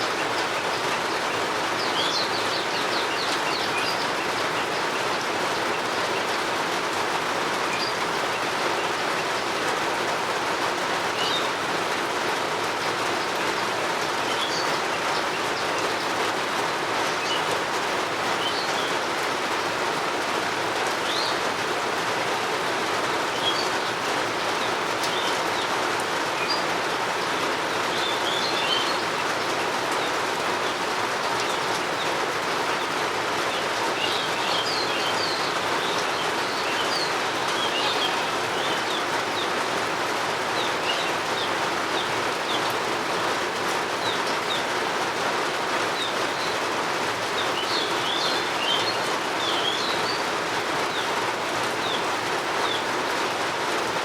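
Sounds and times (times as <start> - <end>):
birds chirping: 0.0 - 54.0
steady rain: 0.0 - 54.0.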